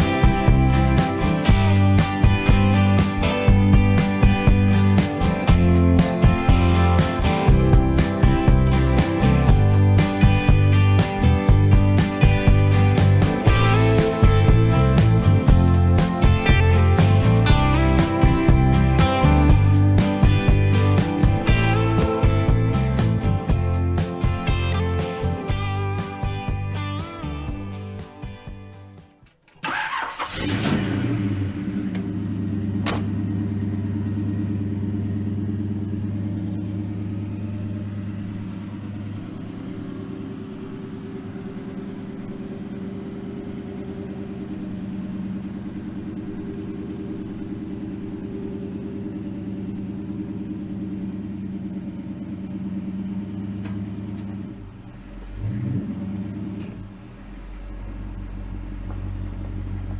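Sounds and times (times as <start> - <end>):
car engine cranking and idling: 0.0 - 59.9.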